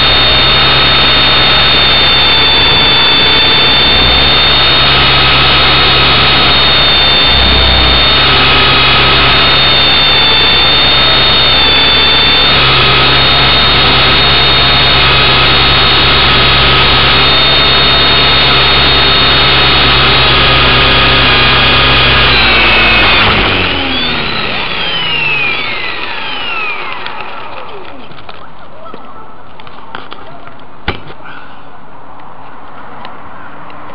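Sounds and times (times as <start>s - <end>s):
electric motor whine: 0.0s - 28.4s.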